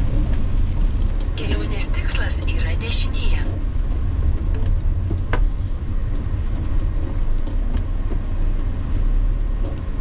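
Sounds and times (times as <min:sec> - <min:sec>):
faint clicks and rattles: 0:00.0 - 0:10.0
road and engine rumble: 0:00.0 - 0:10.0.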